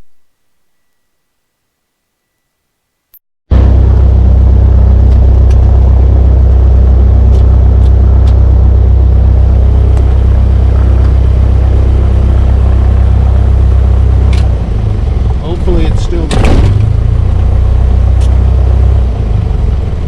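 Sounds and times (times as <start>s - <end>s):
propeller plane engine drone: 3.5s - 20.0s.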